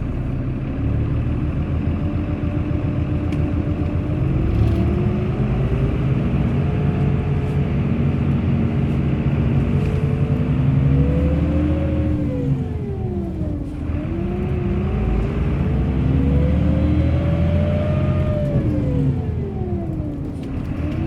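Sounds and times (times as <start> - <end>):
bus engine accelerating: 0.0 - 21.0.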